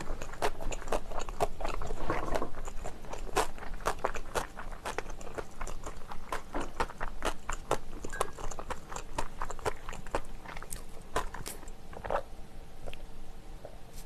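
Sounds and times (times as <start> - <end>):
crunchy chewing of food: 0.0 - 14.0.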